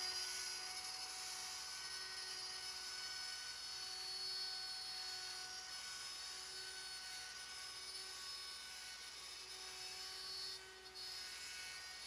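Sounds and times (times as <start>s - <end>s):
router cutting acrylic: 0.0s - 12.0s.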